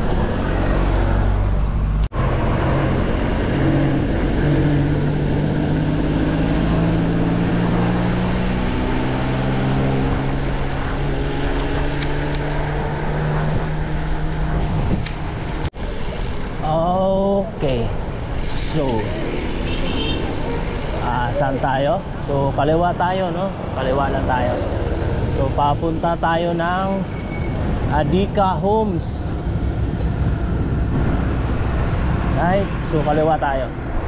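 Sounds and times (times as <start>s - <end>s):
vehicle engine humming: 0.0s - 16.6s, 17.4s - 34.0s
wind and road noise: 0.0s - 34.0s.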